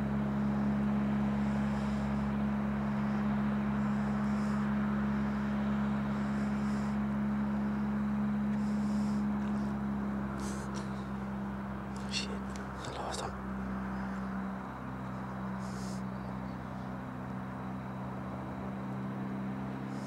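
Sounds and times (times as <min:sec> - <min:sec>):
outboard motor droning: 0:00.0 - 0:20.0.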